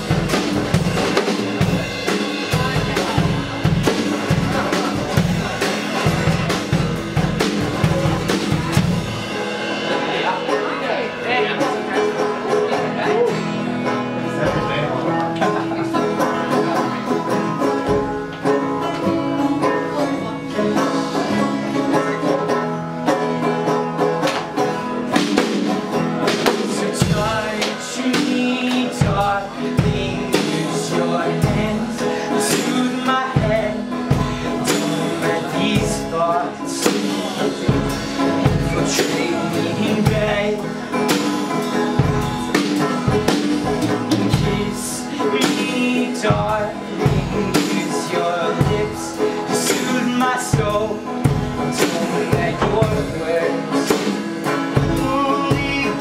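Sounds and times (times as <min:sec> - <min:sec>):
drum kit steady beat: 0:00.0 - 0:56.0
plucked stringed instrument: 0:00.0 - 0:56.0
strummed acoustic guitar: 0:00.0 - 0:56.0.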